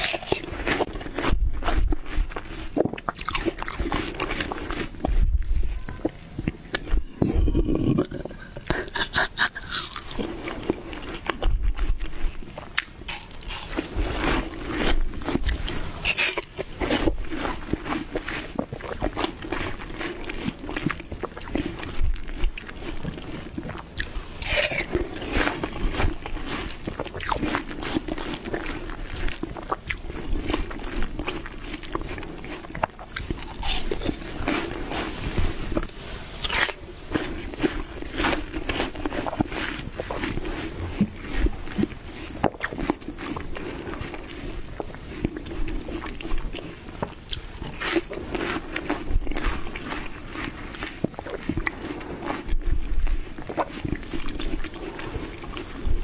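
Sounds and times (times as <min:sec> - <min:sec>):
watermelon being bitten and chewed: 0:00.0 - 0:56.0.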